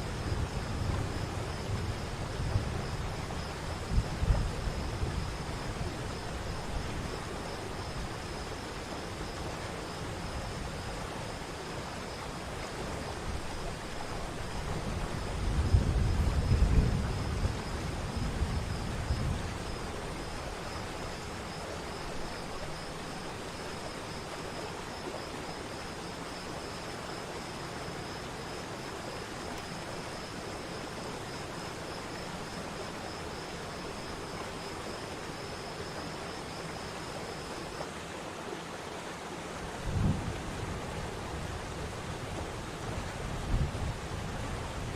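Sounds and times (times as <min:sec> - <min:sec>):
high pulsing insect trill: 0:00.0 - 0:38.0.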